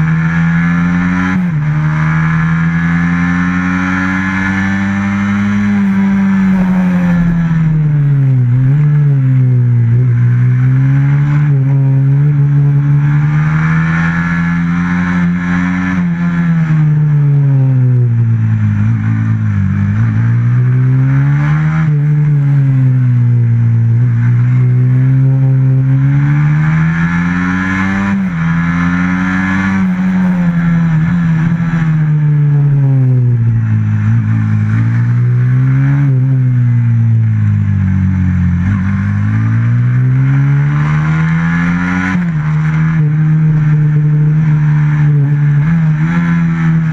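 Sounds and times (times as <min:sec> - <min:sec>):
racing motorcycle engine revving: 0:00.0 - 0:46.9.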